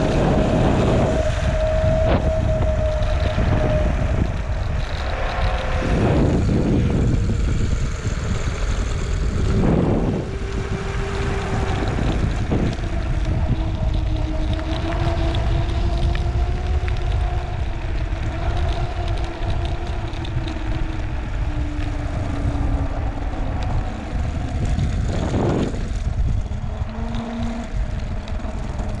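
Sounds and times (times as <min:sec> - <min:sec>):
heavy steady rumble: 0:00.0 - 0:29.0
wind buffeting microphone: 0:00.0 - 0:29.0.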